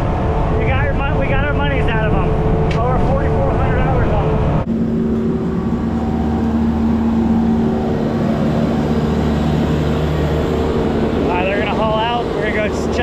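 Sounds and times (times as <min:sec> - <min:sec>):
outboard engines humming: 0:00.0 - 0:13.0.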